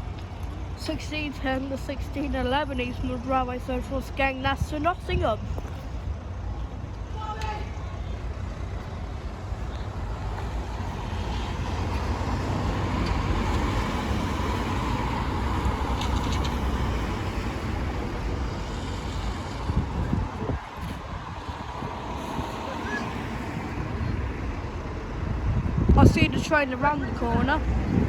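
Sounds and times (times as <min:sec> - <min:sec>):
road traffic rumble: 0:00.0 - 0:28.0
wind rumble on microphone: 0:03.1 - 0:28.0.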